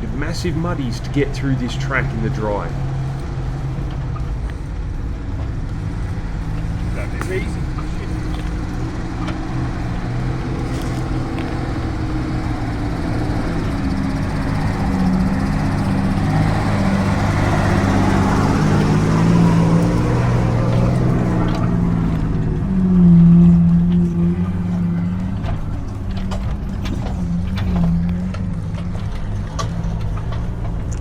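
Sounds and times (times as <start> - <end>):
off-road vehicle engine climbing: 0.0 - 31.0.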